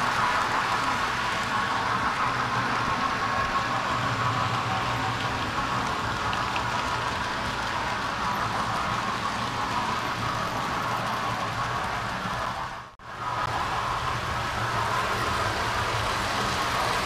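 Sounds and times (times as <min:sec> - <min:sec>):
model train wheels rattling on rail: 0:00.0 - 0:12.7, 0:13.6 - 0:17.0.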